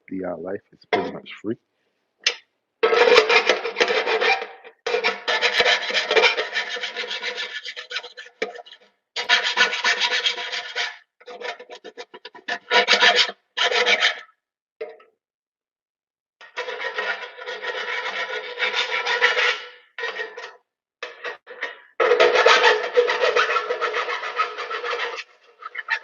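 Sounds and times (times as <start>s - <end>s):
file rasping on metal: 2.8s - 14.3s, 16.4s - 26.0s.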